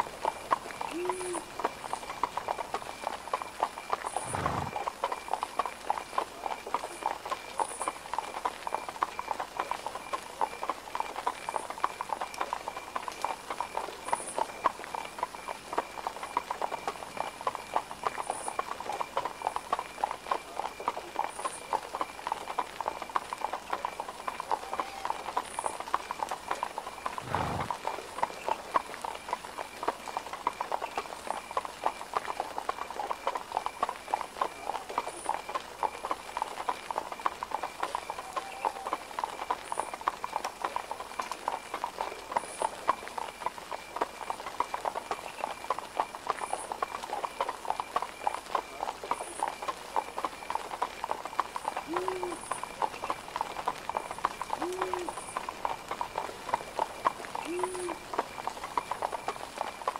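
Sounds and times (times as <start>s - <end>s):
hooves on cobblestones: 0.0s - 59.9s.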